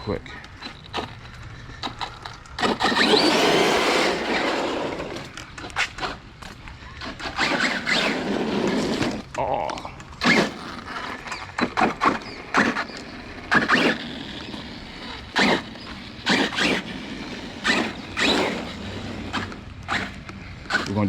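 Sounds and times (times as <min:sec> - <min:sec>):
rc car motor surging: 0:01.8 - 0:06.2, 0:07.0 - 0:09.2, 0:10.2 - 0:21.0.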